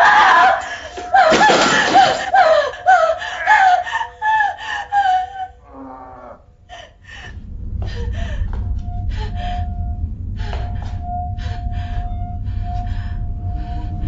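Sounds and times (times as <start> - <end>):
low rumbling drone: 2.2 - 14.0.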